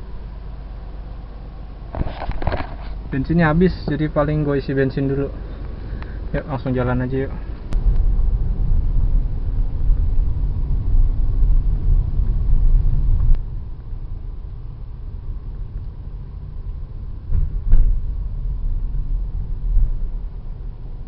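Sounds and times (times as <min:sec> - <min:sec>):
car cabin engine rumble: 0:00.0 - 0:21.0.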